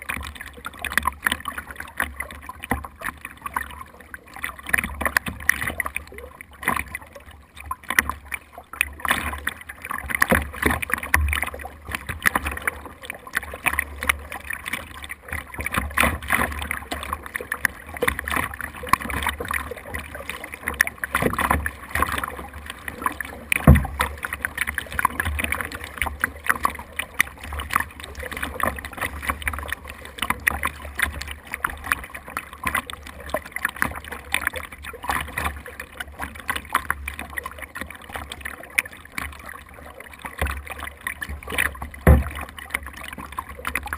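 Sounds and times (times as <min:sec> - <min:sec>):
water splashing around a boat: 0:00.0 - 0:43.9.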